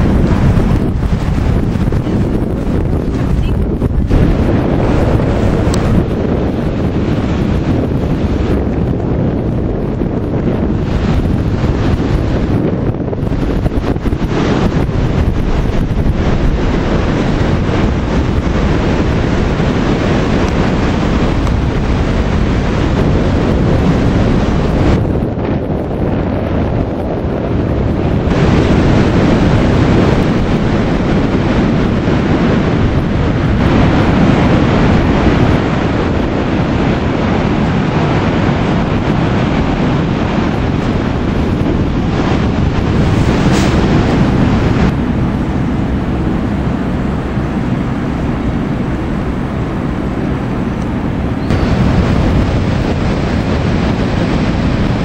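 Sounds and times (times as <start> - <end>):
ocean surf rushing: 0.0 - 55.0
wind buffeting microphone: 0.0 - 55.0.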